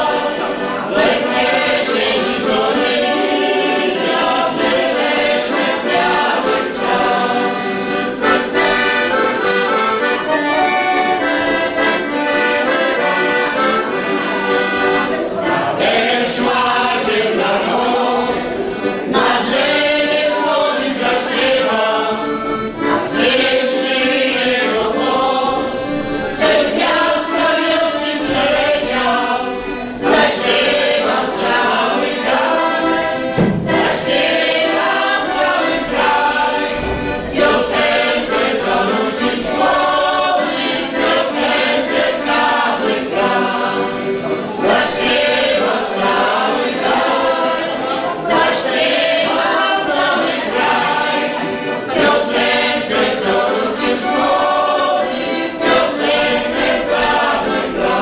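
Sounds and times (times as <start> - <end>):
accordion: 0.0 - 58.0
folk choir singing: 0.0 - 58.0.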